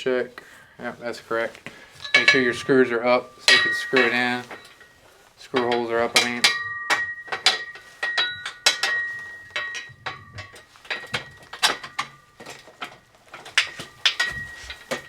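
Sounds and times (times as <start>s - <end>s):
metal tubes knocking together: 1.2s - 15.0s.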